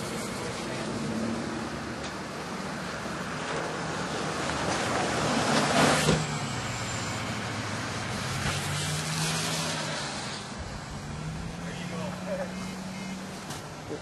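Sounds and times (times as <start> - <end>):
vehicle passing close: 0.0 - 14.0.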